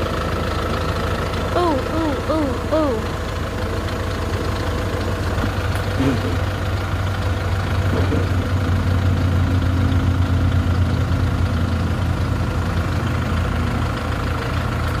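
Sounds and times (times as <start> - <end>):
vehicle engine running at low revs: 0.0 - 15.0.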